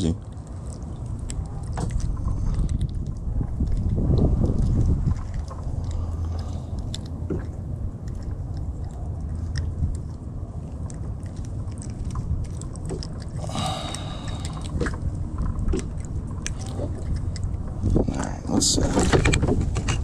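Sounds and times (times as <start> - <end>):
small clicks and crunches: 0.0 - 18.0
steady low rumble: 0.0 - 20.0.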